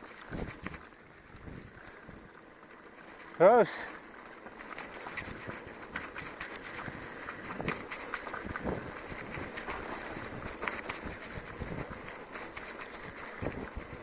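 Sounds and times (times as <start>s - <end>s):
bicycle tyres crunching on dirt: 0.0s - 14.0s
bike rattling and knocking: 0.0s - 14.0s.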